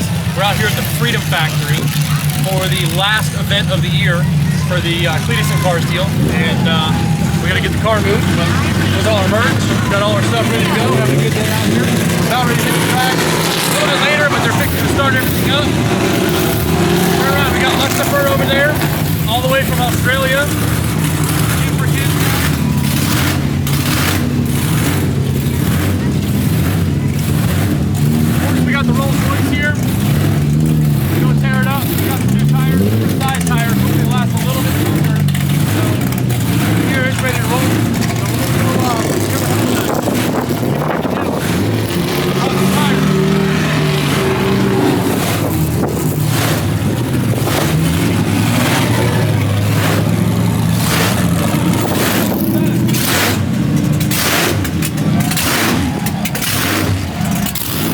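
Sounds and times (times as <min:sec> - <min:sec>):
car engines droning: 0:00.0 - 0:57.9.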